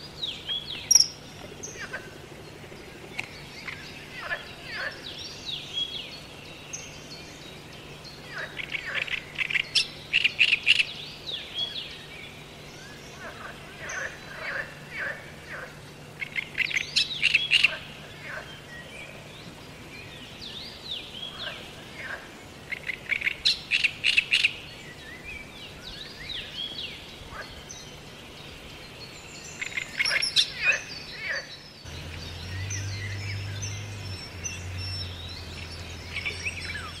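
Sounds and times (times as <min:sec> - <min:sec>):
low steady hum: 0:00.0 - 0:37.0
wild birds chirping: 0:00.0 - 0:37.0.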